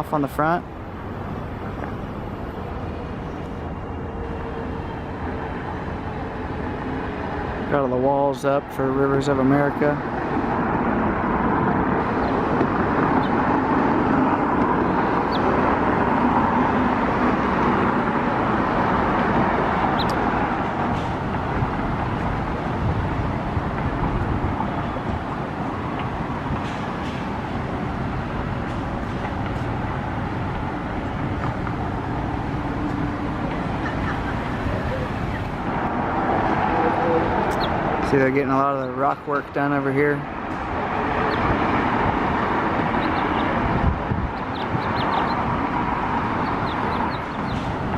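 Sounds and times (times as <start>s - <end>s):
road traffic rushing: 0.0s - 47.9s.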